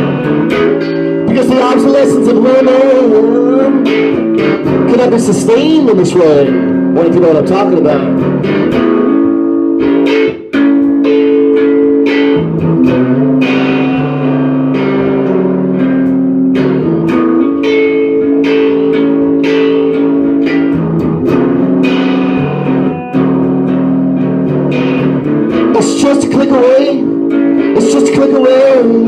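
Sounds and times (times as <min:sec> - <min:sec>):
bass line: 0:00.0 - 0:29.0
guitar playing held chords: 0:00.0 - 0:29.0.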